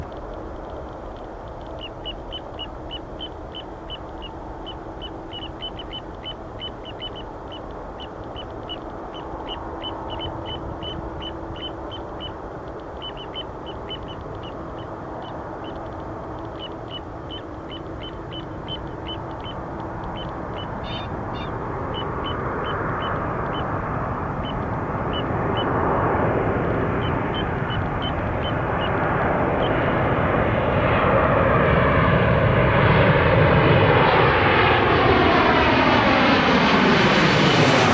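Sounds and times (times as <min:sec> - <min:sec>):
jet engines rumbling: 0:00.0 - 0:37.9.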